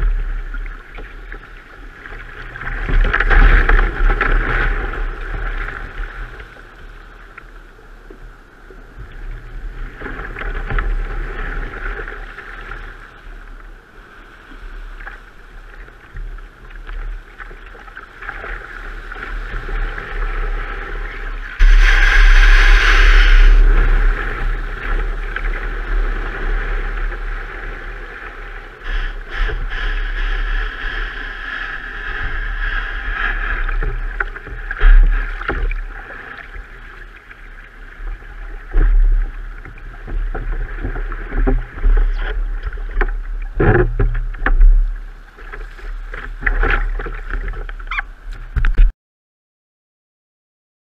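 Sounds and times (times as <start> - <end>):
surf splashing around kayak hull: 0.0 - 48.9
wind rumble on microphone: 0.0 - 48.9.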